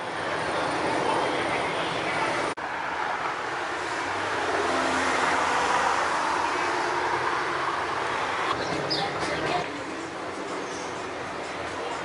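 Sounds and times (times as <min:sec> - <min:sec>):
passing car noise: 0:00.0 - 0:12.0.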